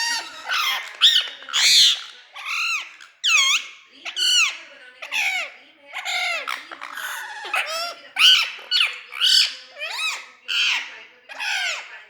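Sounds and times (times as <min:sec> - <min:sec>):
parrot squawking: 0:00.0 - 0:12.0.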